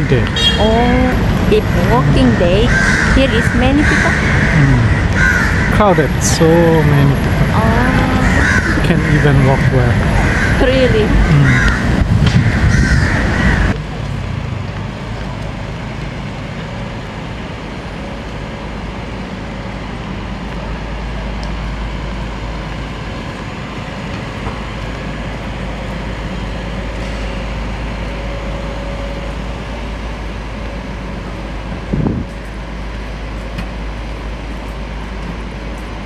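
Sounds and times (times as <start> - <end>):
city traffic rumble: 0.0 - 36.0.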